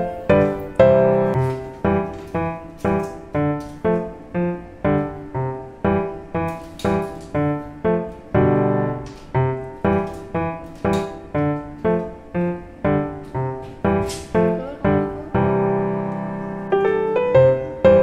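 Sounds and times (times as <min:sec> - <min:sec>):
piano notes: 0:00.0 - 0:18.0.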